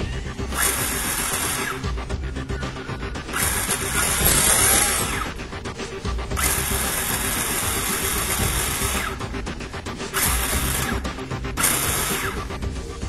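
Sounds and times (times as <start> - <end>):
background music: 0.0 - 13.0
rc car electric motor revving: 0.0 - 13.0.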